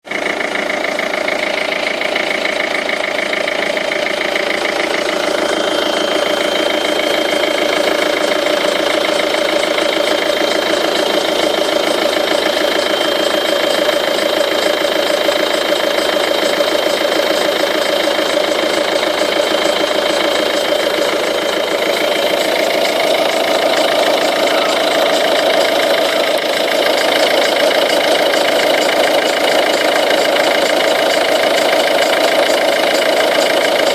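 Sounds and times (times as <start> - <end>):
diesel engine idling: 0.0 - 33.9
rhythmic engine noise: 0.0 - 33.9.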